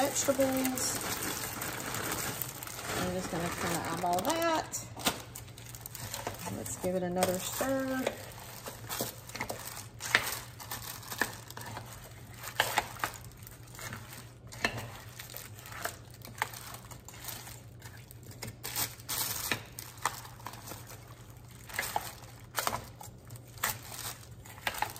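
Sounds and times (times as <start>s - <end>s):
plastic liner crinkling: 0.0s - 24.9s.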